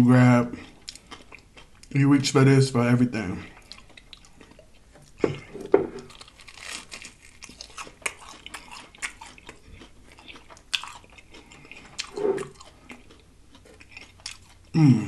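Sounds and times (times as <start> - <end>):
person chewing crispy food: 0.4 - 2.4, 3.2 - 15.0.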